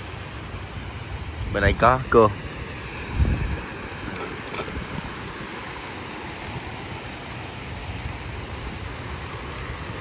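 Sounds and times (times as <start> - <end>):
sea waves washing over beach: 0.0 - 10.0
wind buffeting microphone: 0.7 - 10.0.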